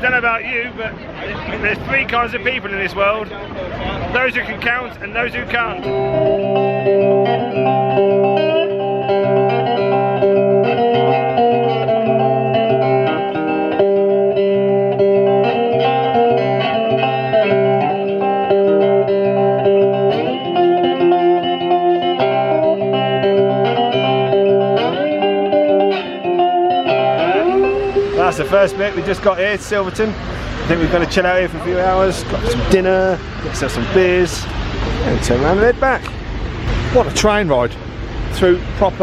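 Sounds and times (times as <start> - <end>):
plucked guitar music: 4.1 - 39.0.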